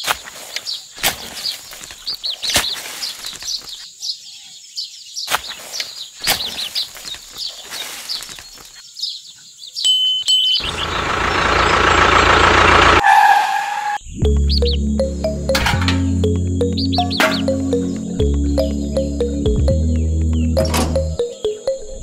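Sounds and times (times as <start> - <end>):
birds chirping: 0.0 - 13.0, 13.7 - 22.0.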